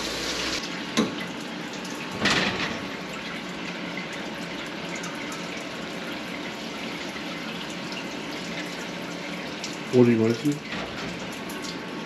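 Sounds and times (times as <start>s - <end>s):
oil running and splashing: 0.0s - 12.0s.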